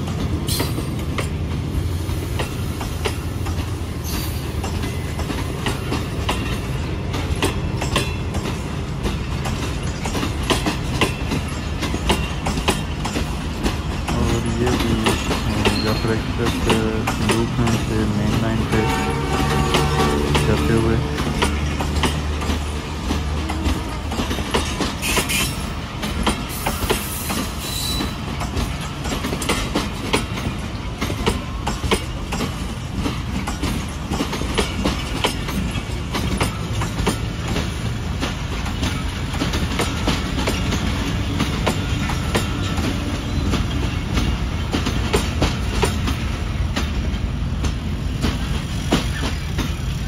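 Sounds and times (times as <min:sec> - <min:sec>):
freight train wagons rumbling: 0:00.0 - 0:50.0.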